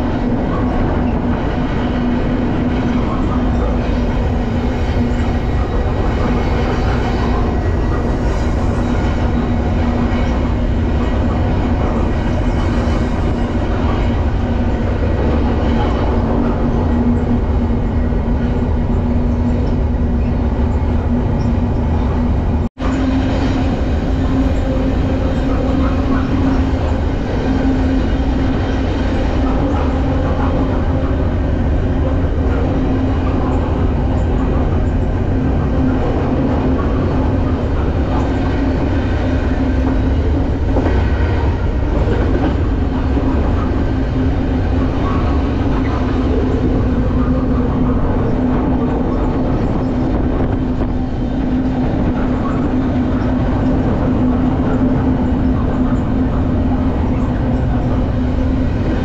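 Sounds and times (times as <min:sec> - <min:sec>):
steady drone: 0:00.0 - 0:59.0
train wheels rumbling and rattling: 0:00.0 - 0:59.0.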